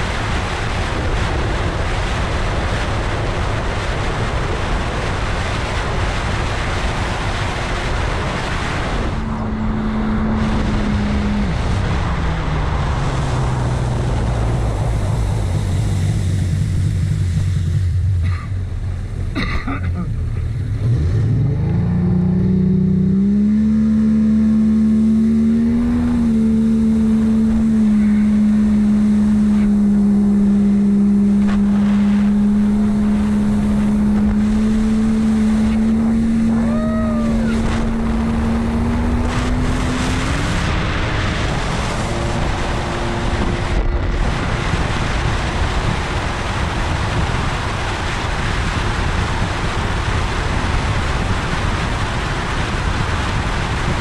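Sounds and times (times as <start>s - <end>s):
rush of wind and water: 0.0s - 54.0s
jet ski engine revving: 0.1s - 54.0s.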